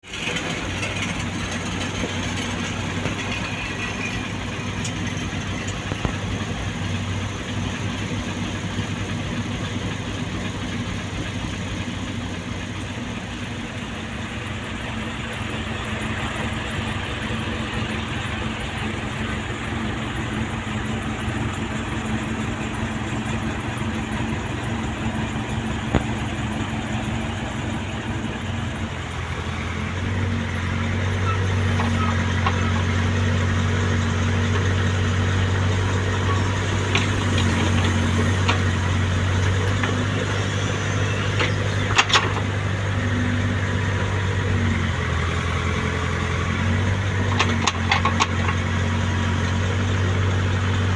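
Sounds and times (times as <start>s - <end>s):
heavy diesel engines running: 0.0s - 50.9s
low engine note: 0.0s - 50.9s.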